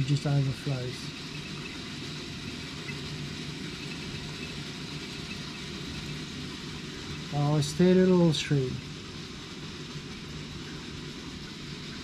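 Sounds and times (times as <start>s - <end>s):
still low rumble with hiss: 0.0s - 12.0s.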